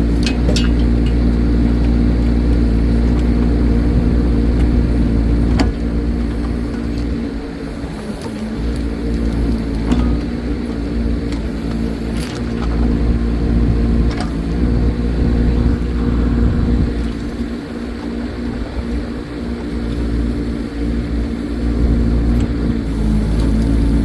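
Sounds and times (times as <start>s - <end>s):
mini excavator diesel engine running: 0.0s - 24.0s.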